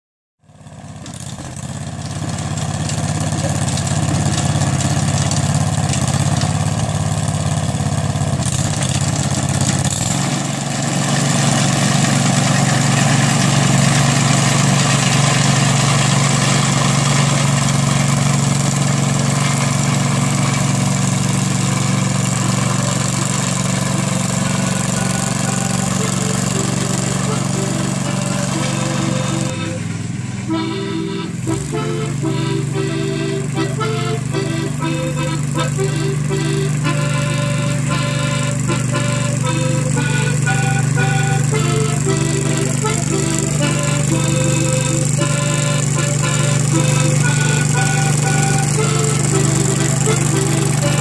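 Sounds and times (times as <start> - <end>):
motor mower running: 0.4 - 51.0.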